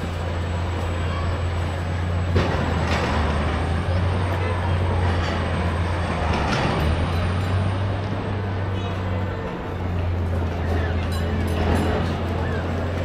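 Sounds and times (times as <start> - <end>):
heavy vehicle engine rumble: 0.0 - 13.0
traffic noise: 0.0 - 13.0.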